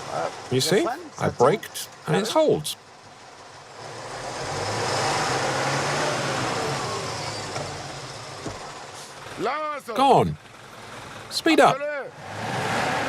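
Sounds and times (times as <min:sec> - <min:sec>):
truck engine hum: 0:00.0 - 0:13.0.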